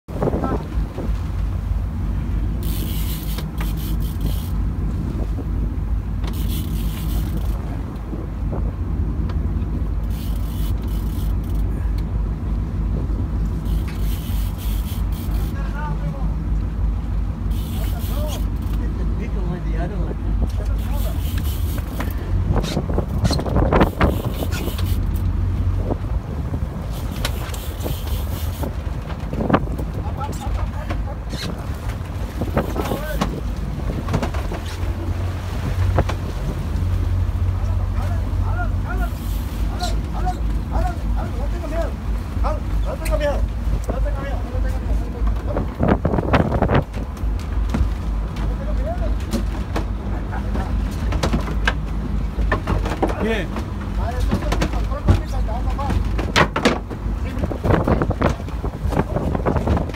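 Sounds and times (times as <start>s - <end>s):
boat engine rumble: 0.0s - 59.9s
wind buffeting microphone: 0.1s - 39.1s, 39.7s - 59.9s.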